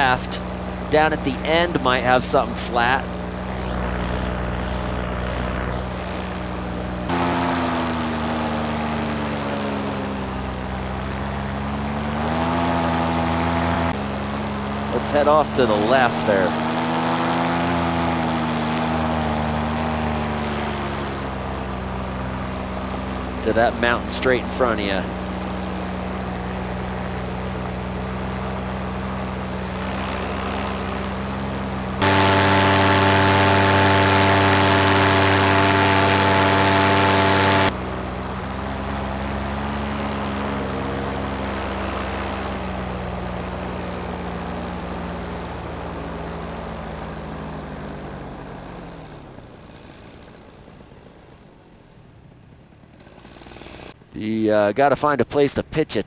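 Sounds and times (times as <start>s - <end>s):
paraglider engine and propeller: 0.0s - 55.8s.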